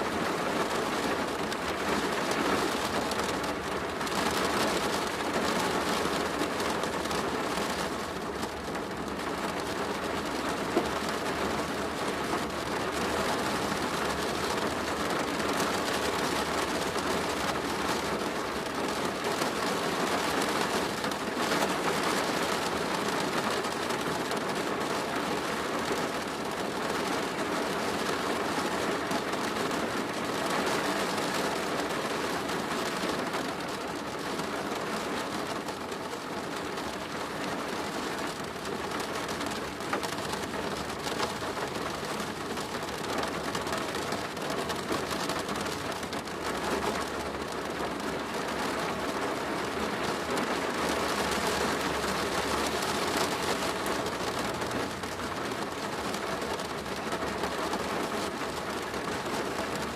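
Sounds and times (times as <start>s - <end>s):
heavy rain on a plastic roof: 0.0s - 59.9s.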